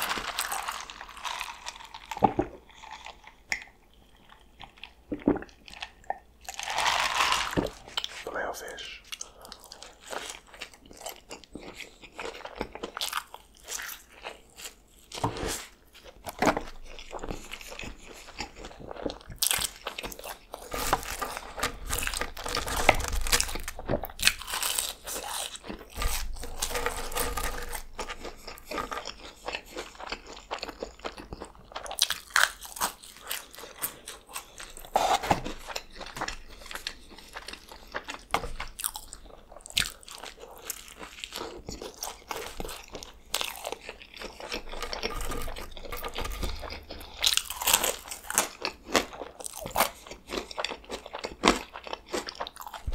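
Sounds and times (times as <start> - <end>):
chewing: 0.0 - 52.9.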